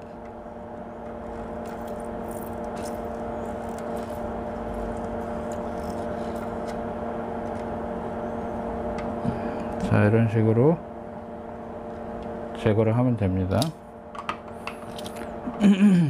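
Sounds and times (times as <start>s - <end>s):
bench fan humming: 0.0s - 16.0s.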